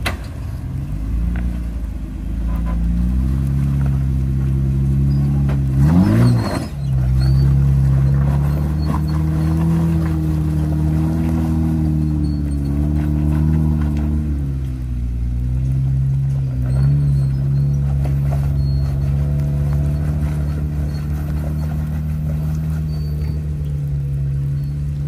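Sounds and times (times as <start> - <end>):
vehicle engine running at low revs: 0.0 - 25.0.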